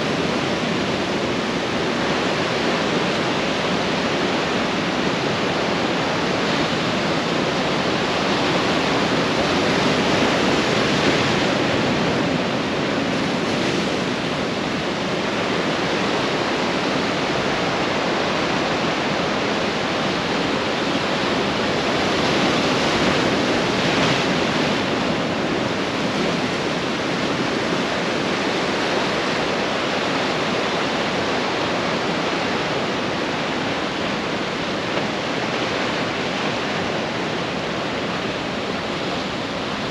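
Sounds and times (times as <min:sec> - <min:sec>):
ocean surf washing onto shore: 0:00.0 - 0:39.9.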